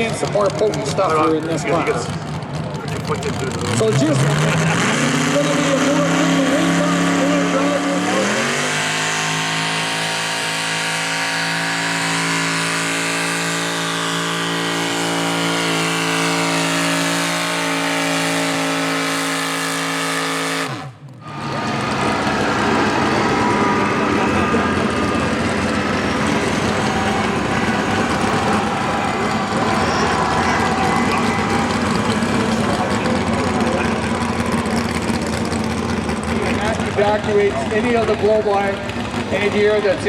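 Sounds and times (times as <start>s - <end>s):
rough noisy engine: 0.0s - 40.0s
tractor engine at high revs: 0.0s - 40.0s.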